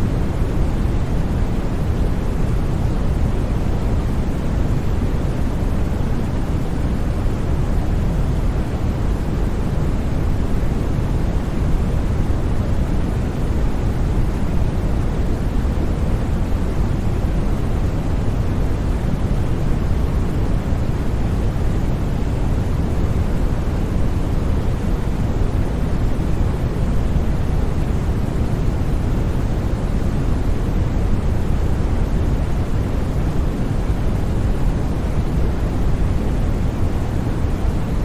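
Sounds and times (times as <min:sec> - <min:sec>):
white noise hiss: 0:00.0 - 0:38.0.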